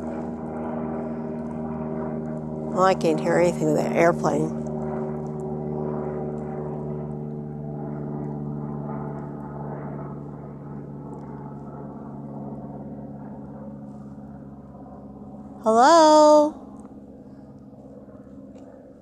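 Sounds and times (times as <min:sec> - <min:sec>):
airplane drone: 0:00.0 - 0:19.0.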